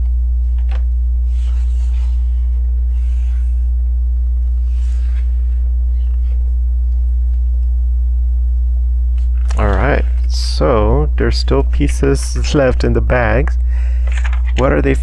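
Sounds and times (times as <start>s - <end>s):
loud low electrical hum: 0.0s - 15.0s.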